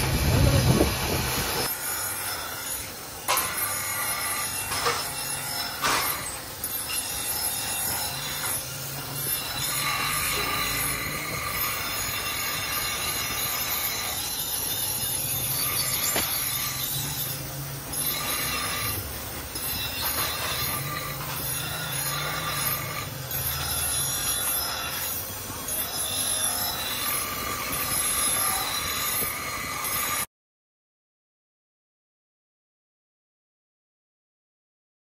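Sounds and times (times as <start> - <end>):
bench grinder grinding steel: 0.0 - 30.3.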